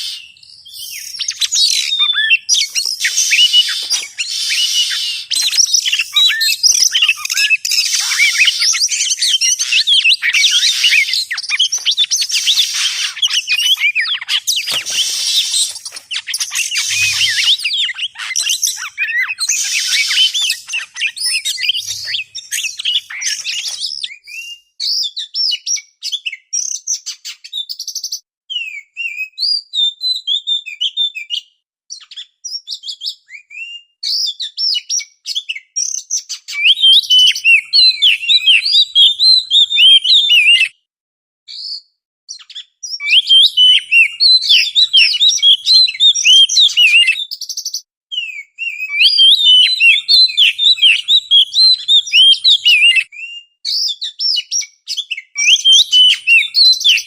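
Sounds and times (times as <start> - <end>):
bird singing sharp chirps and whistles: 0.0 - 40.8, 41.5 - 57.0.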